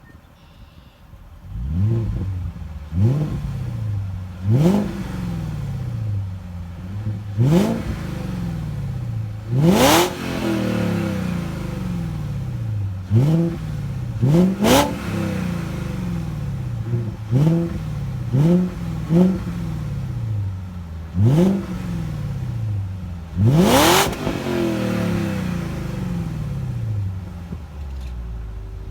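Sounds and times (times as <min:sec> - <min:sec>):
car engine revving from idle: 0:01.3 - 0:28.9.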